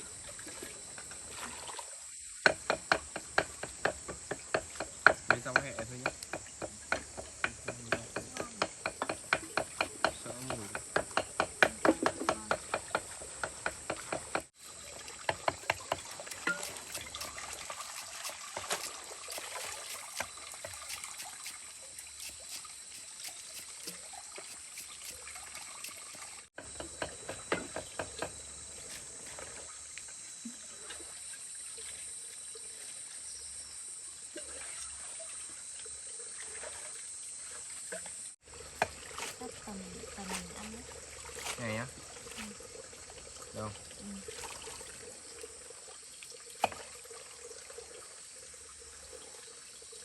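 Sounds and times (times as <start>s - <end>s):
water trickling and splashing: 0.0s - 26.6s, 27.7s - 50.0s.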